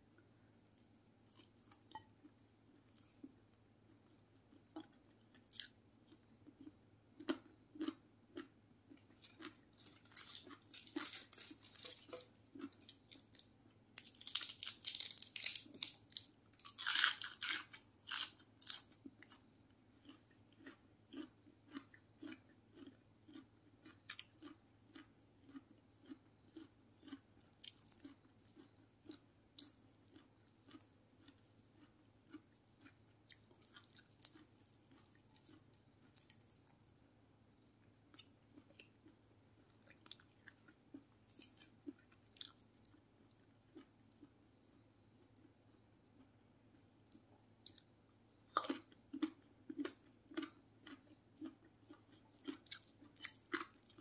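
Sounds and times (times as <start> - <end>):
person chewing wetly: 0.6 - 15.9, 16.7 - 37.0, 37.6 - 54.0
food crunching: 0.8 - 37.0, 37.6 - 44.6, 45.3 - 54.0.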